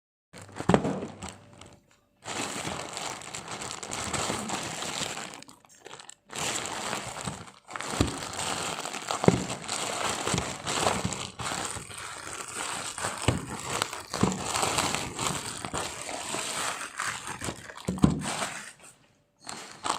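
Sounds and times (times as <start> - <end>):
packaging crinkling and rustling: 0.4 - 19.9.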